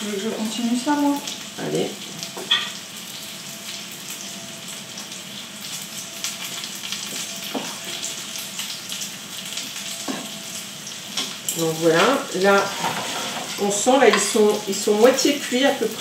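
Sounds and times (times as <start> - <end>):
chicken nuggets sizzling in fat: 0.0 - 16.0.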